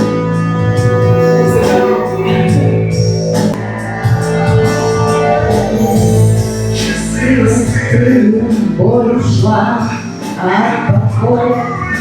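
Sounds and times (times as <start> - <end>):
instrumental pop backing track: 0.0 - 12.0.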